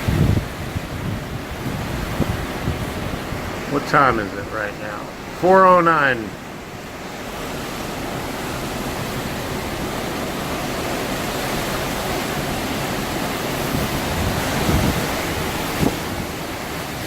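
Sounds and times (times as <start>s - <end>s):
strong wind buffeting microphone: 0.0s - 5.4s, 6.4s - 17.0s.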